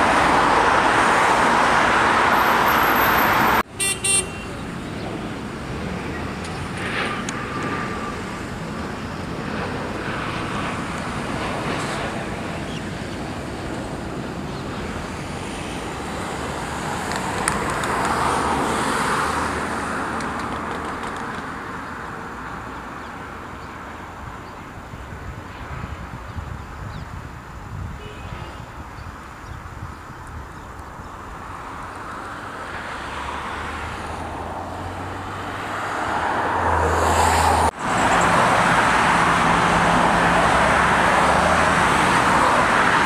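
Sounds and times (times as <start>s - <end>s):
engine and traffic noise: 0.0s - 43.0s.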